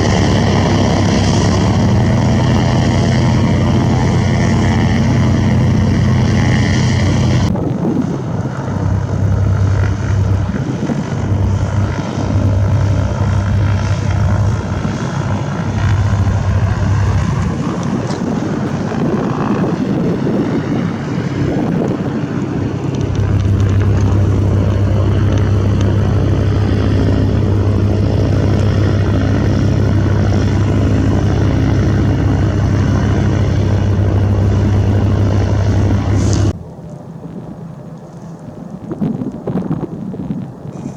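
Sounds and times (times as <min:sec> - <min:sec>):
propeller airplane engine: 0:00.0 - 0:40.9.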